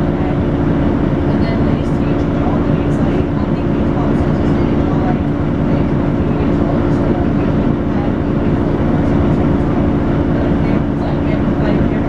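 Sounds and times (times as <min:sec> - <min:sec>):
bus diesel engine drone: 0:00.0 - 0:12.0
bus transmission whine: 0:00.0 - 0:12.0.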